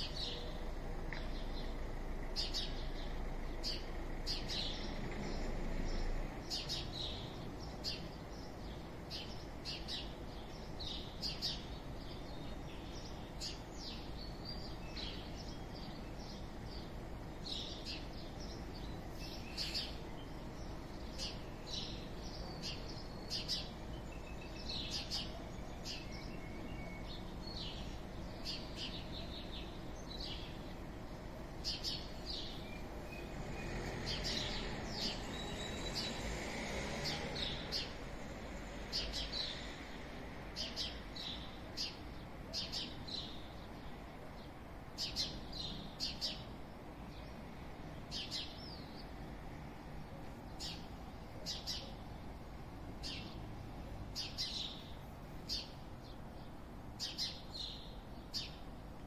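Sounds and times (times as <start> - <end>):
low background town hum: 0.0 - 59.0
small birds chirping: 0.0 - 59.0.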